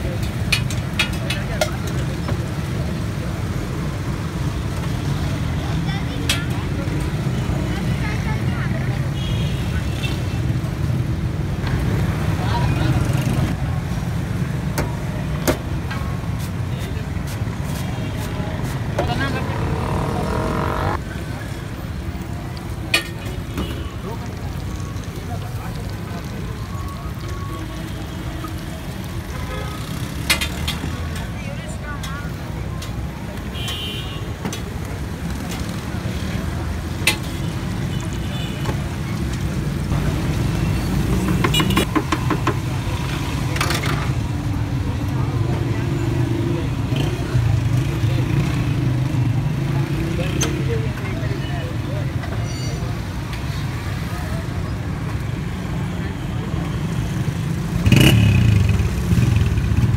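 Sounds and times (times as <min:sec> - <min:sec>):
low rumble of road traffic: 0:00.0 - 0:59.9.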